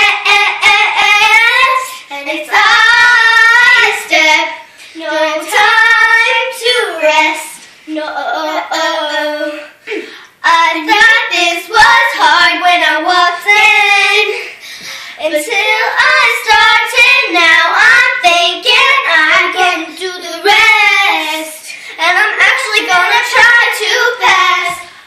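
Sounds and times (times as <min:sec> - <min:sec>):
girls singing unaccompanied: 0:00.0 - 0:25.0.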